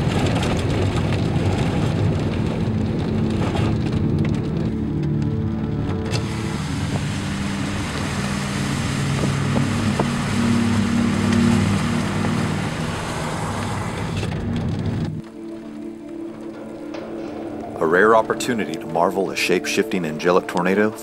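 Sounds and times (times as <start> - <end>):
road and wind noise: 0.0 - 19.2
car engine hum: 0.0 - 19.4.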